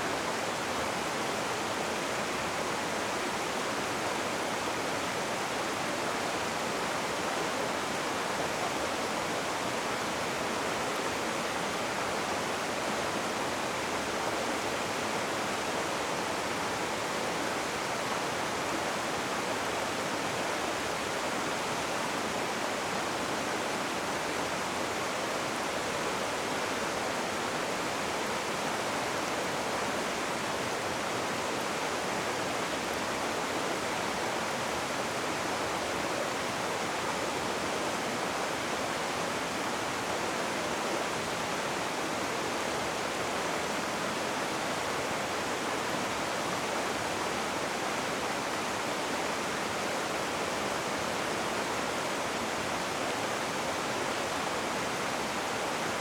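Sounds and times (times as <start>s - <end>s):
rushing river water: 0.0s - 56.0s.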